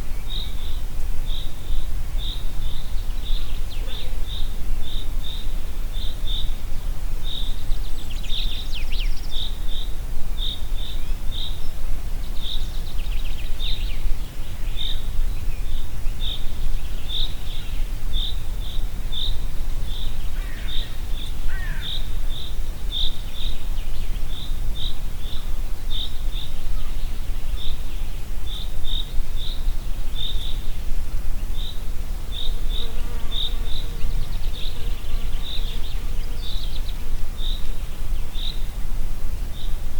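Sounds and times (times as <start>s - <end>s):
wind blowing through forest: 0.0s - 39.9s.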